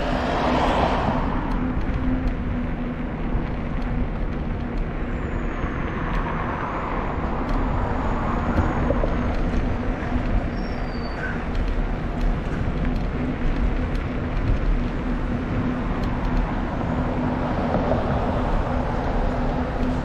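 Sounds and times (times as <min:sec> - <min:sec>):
road traffic passing: 0:00.0 - 0:20.0
steady low hum: 0:00.0 - 0:20.0
wind rushing over microphone: 0:00.0 - 0:20.0.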